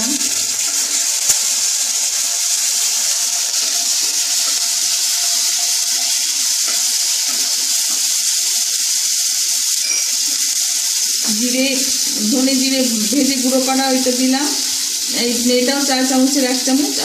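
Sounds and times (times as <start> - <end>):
spices sizzling in oil: 0.0 - 17.0.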